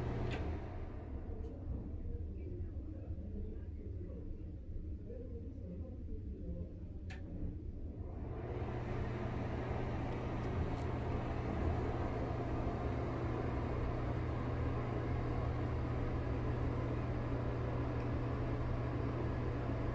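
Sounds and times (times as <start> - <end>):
exhaust fan motor hum: 0.0 - 19.9.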